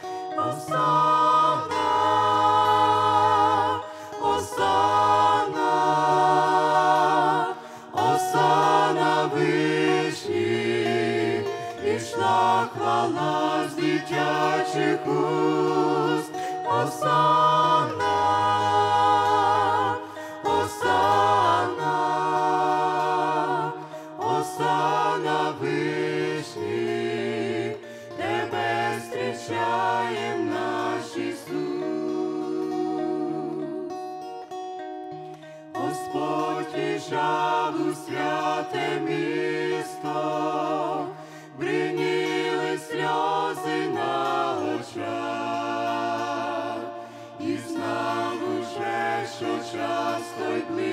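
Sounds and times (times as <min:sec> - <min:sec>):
group singing in harmony: 0:00.0 - 0:50.9.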